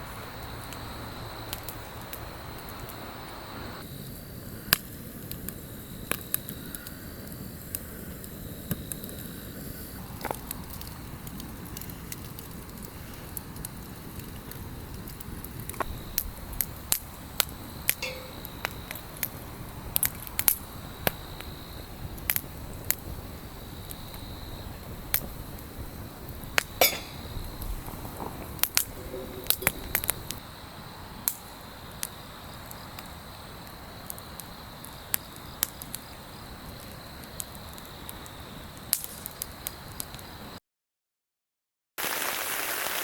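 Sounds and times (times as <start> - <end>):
wood fire crackling: 0.0 - 40.3, 42.0 - 43.0.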